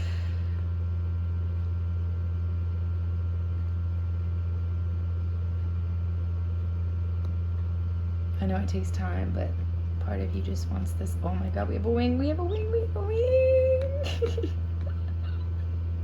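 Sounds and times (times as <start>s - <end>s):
egg incubator humming: 0.0s - 16.0s.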